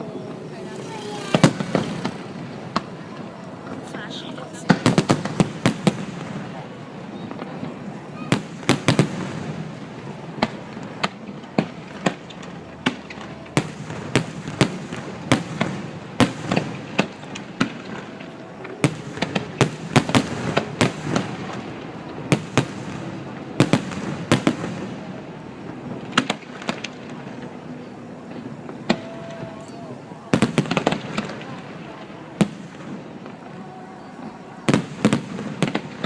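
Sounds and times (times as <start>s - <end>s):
fireworks bangs: 0.0s - 36.0s.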